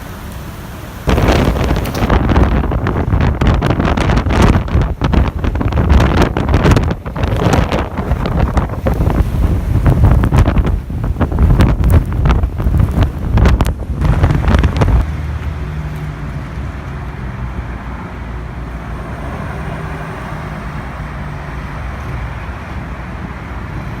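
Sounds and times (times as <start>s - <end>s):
strong wind buffeting microphone: 0.8s - 24.0s.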